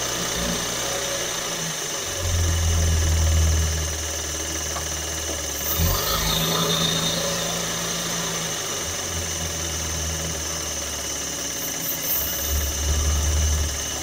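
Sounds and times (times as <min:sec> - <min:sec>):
car engine running with whine: 0:00.0 - 0:14.0.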